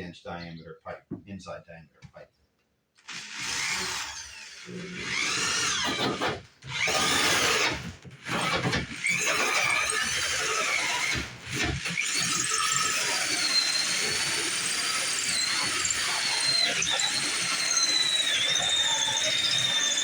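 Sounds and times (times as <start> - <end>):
drill cutting hole saw into wood: 3.0 - 20.0.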